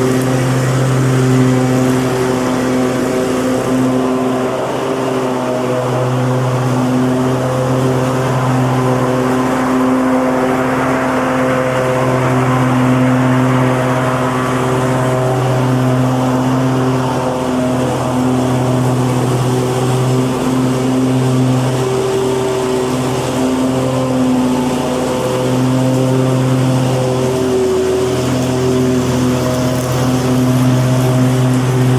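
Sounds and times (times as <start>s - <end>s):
lawnmower engine running: 0.0s - 31.9s.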